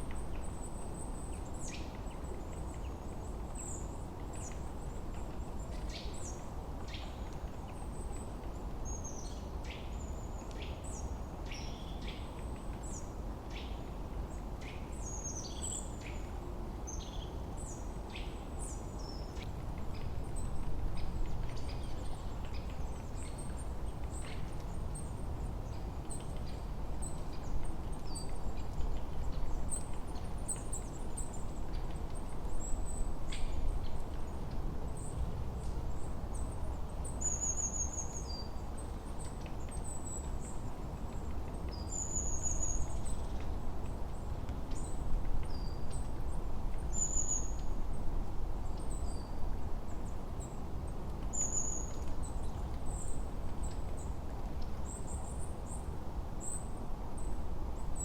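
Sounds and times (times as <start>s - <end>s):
low rush of wind: 0.0s - 58.0s.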